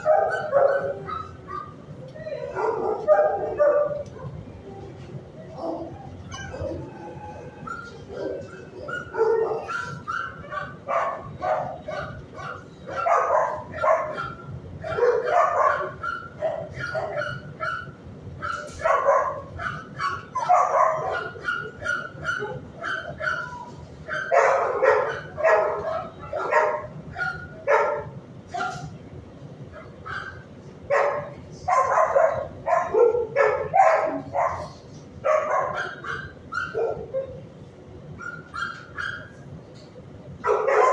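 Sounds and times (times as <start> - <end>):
dogs barking: 0.0 - 4.5, 5.4 - 29.0, 29.6 - 40.9.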